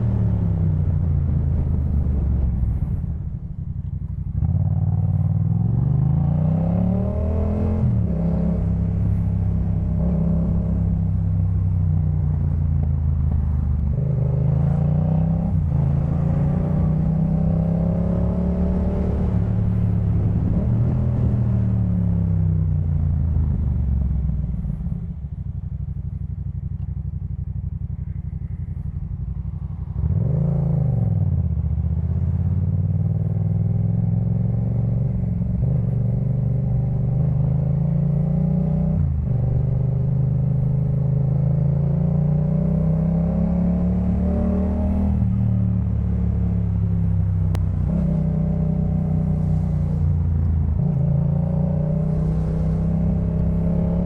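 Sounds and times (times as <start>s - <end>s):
motorcycle engine revving: 4.0s - 54.0s.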